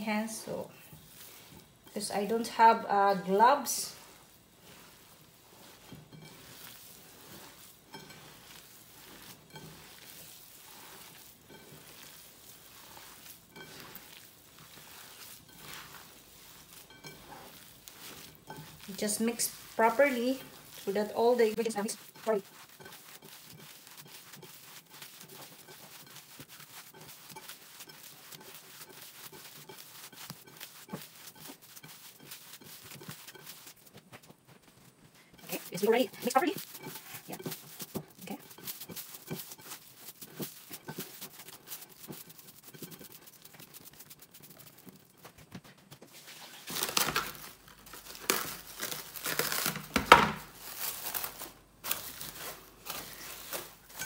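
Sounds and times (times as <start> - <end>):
hands squishing raw meat: 0.1 - 54.0.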